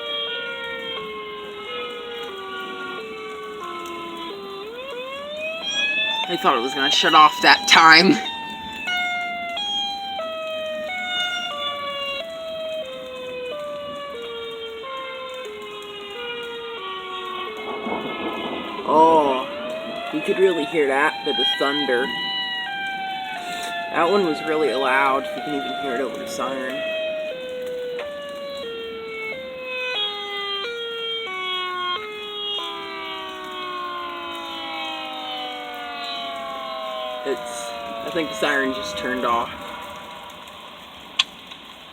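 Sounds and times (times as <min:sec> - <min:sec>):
storm warning siren wailing: 0:00.0 - 0:41.9.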